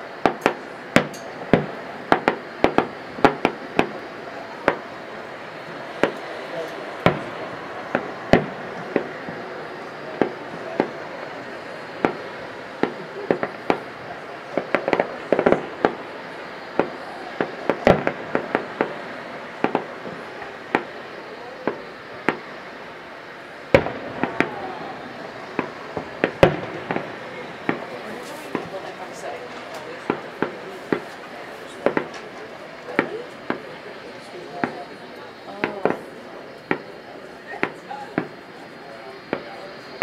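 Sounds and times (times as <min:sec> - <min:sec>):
fireworks bursting with sharp bangs: 0:00.0 - 0:40.0.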